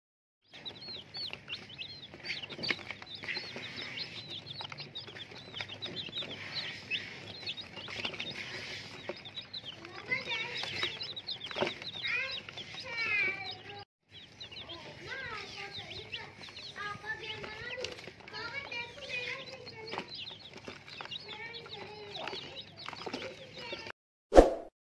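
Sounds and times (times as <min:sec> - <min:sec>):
chicks peeping: 0:00.4 - 0:23.9.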